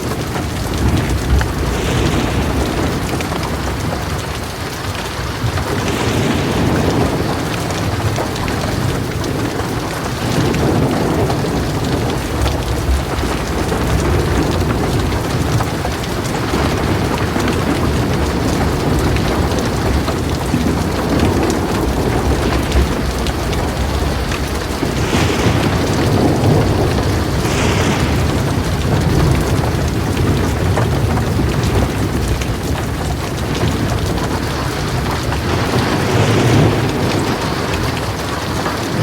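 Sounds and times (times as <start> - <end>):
deep thunder rumble: 0.0 - 39.0
heavy rain falling: 0.0 - 39.0.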